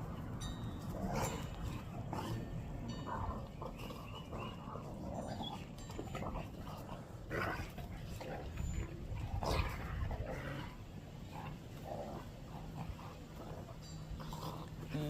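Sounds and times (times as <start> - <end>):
dog whining and grumbling: 1.0 - 10.9, 12.6 - 15.0.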